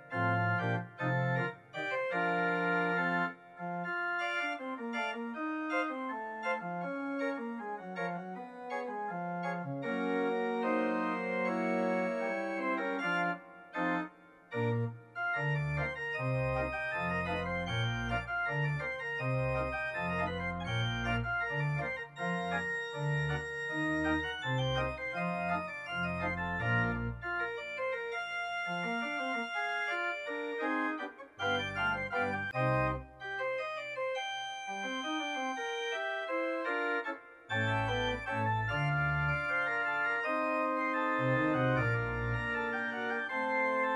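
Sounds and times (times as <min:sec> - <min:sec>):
organ music: 0:00.0 - 0:43.9.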